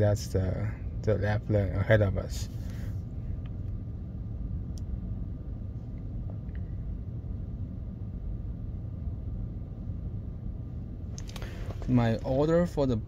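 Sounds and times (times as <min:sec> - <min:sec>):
low cabin rumble: 0:00.0 - 0:13.0.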